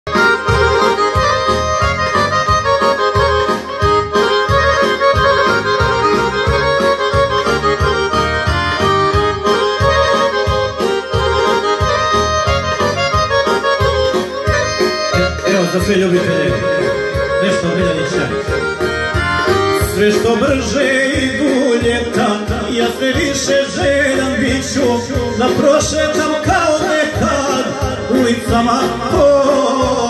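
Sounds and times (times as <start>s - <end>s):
accordion-voiced keyboard melody: 0.0s - 30.0s
bass and drum beat: 0.1s - 15.6s, 16.5s - 30.0s.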